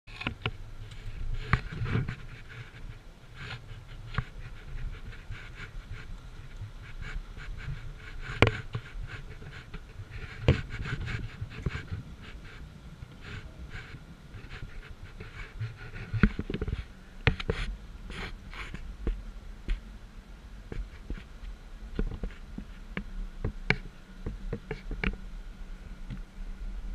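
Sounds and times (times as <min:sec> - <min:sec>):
vehicle rumbling over rough trail: 0:00.1 - 0:26.9.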